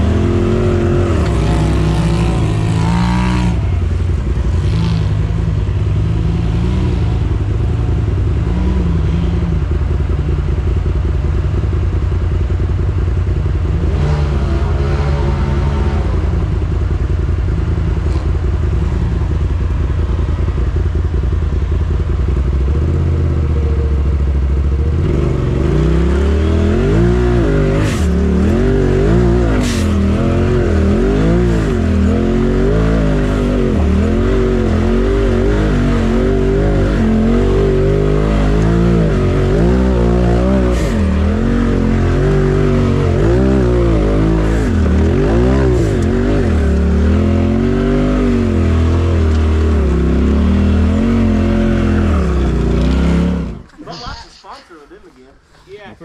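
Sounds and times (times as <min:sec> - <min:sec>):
utv engine idling and revving: 0:00.0 - 0:56.0.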